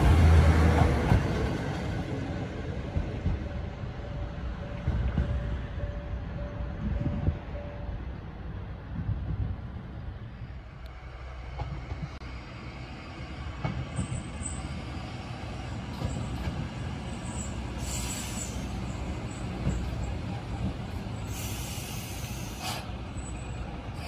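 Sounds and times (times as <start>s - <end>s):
train engine and wheels rumbling: 0.0s - 24.0s.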